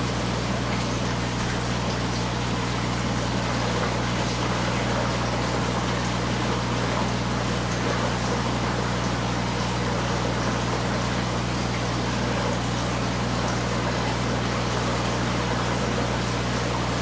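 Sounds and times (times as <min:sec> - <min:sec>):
aquarium pump humming: 0:00.0 - 0:17.0
water bubbling and trickling: 0:00.0 - 0:17.0.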